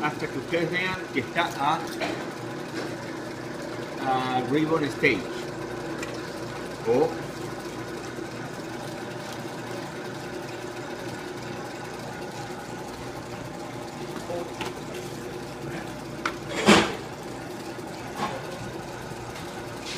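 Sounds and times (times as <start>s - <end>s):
stand mixer whisking: 0.0s - 19.9s.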